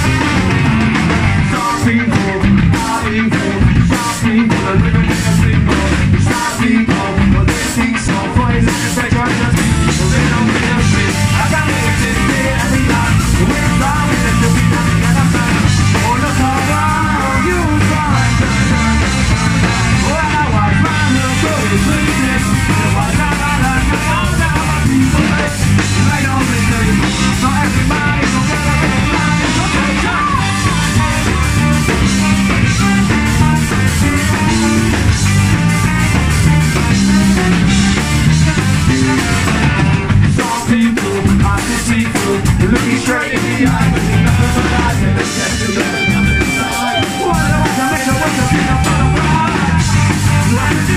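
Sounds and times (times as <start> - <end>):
live ska-punk band playing: 0.0 - 50.9
sung lead vocal: 0.0 - 50.9.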